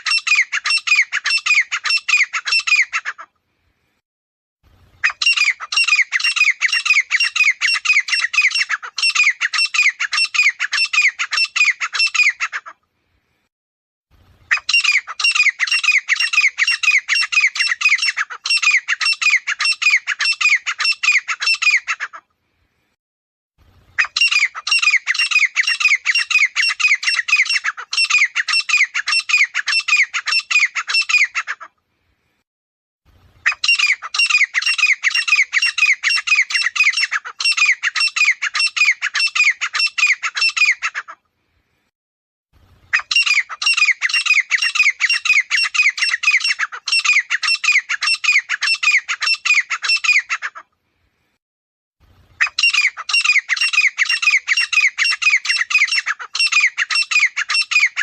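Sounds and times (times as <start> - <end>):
bird shrill repeated calls: 0.0 - 3.3, 5.0 - 12.8, 14.5 - 22.2, 23.9 - 31.7, 33.4 - 41.2, 42.9 - 50.7, 52.4 - 58.0.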